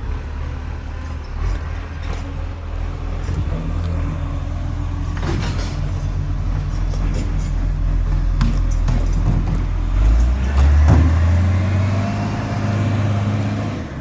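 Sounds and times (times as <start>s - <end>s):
garbage truck engine rumbling: 0.0s - 14.0s.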